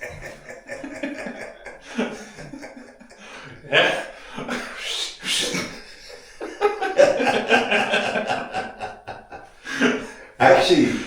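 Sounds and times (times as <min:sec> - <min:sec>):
men laughing: 0:00.0 - 0:11.0.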